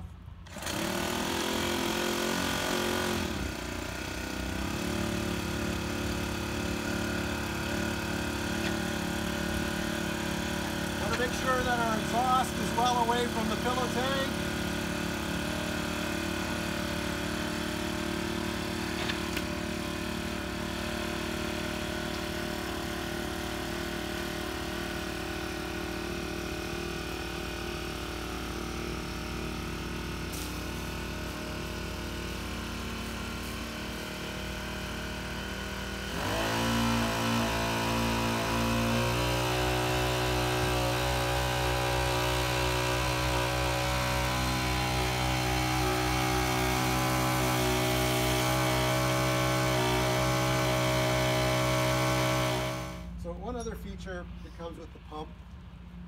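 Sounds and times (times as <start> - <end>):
water pump engine running: 0.1 - 53.2.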